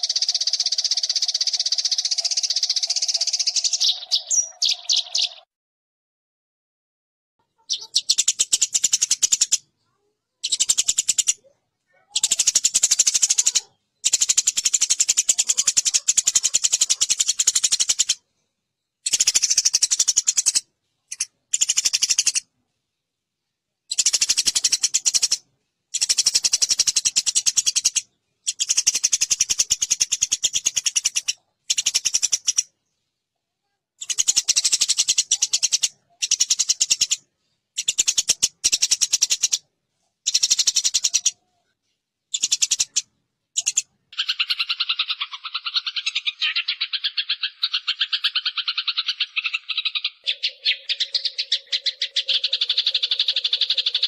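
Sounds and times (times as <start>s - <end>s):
sparrows chattering harshly: 0.0s - 5.5s, 7.5s - 18.2s, 19.0s - 22.5s, 23.9s - 33.0s, 34.0s - 41.5s, 42.3s - 54.0s.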